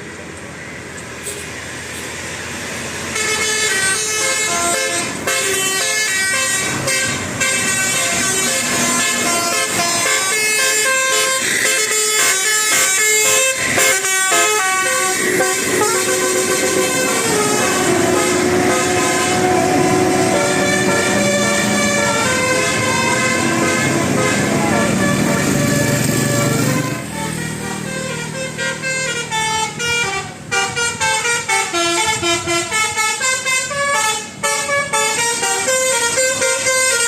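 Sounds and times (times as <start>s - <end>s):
multi-tone bus horn tune: 3.0s - 37.0s.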